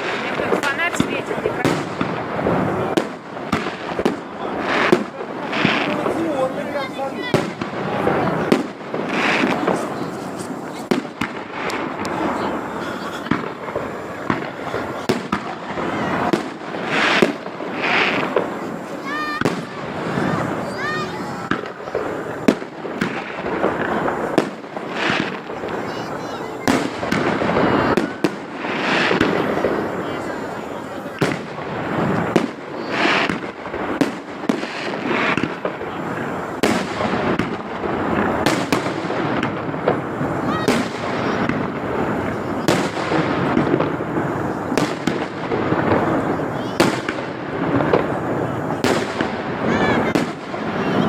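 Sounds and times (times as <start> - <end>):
fireworks bursting: 0.0 - 51.0
fireworks crackling: 0.0 - 51.0
hissing crackling rush: 0.0 - 51.0.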